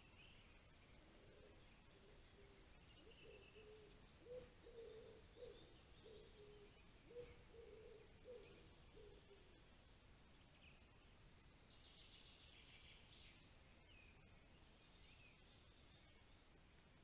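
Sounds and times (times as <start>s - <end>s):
soft background hiss: 0.0s - 17.0s.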